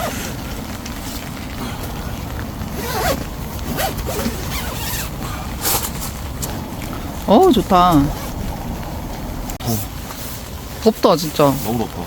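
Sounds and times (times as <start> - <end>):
rain on a shelter: 0.0 - 12.0
raindrop taps: 0.2 - 11.2.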